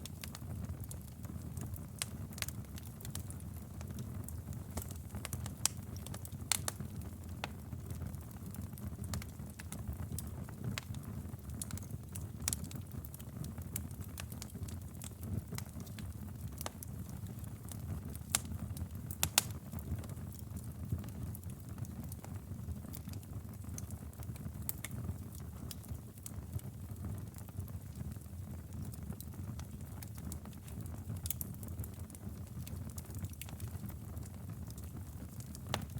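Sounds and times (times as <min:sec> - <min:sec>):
bonfire crackling: 0:00.0 - 0:35.9
low fire rumble: 0:00.0 - 0:35.9.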